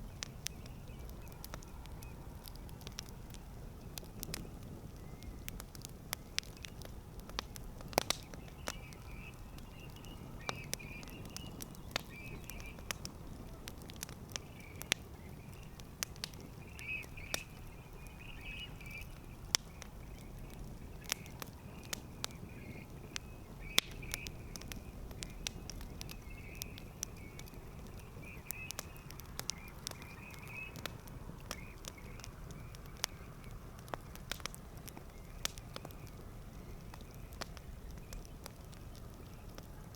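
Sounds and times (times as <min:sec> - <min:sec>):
low rumble of flames: 0:00.0 - 0:39.9
wood crackling and popping: 0:00.0 - 0:39.9.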